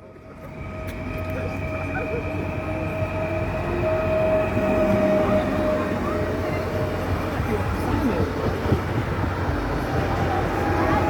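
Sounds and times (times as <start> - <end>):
train rolling along track: 0.0 - 11.0.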